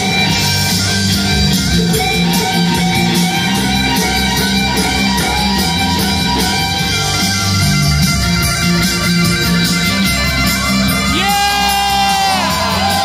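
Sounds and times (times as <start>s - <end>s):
live metal band playing: 0.0s - 13.0s.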